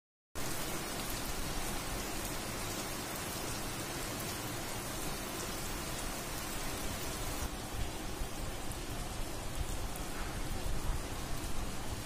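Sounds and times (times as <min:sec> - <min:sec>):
heavy rain falling: 0:00.4 - 0:12.0.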